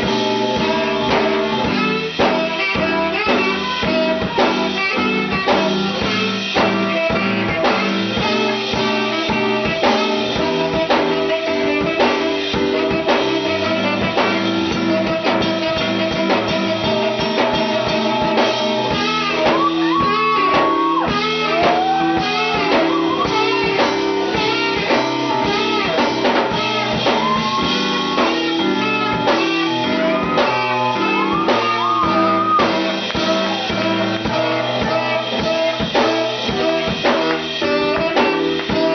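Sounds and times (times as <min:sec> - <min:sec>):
band music with drums: 0:00.0 - 0:38.9
held bending melody notes: 0:00.0 - 0:38.9.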